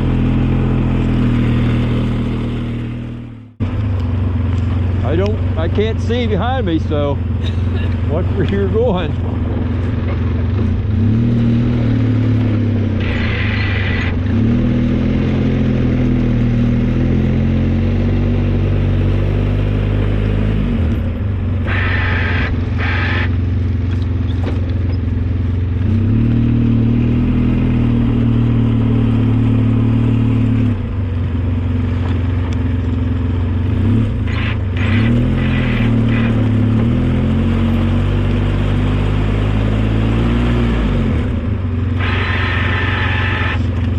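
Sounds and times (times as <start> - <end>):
snowplow engine revving: 0.0 - 43.9.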